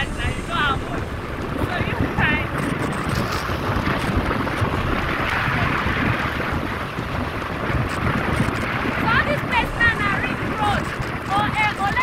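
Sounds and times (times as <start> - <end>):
motorcycle engine and road rumble: 0.0 - 12.0
wind buffeting microphone: 0.0 - 12.0.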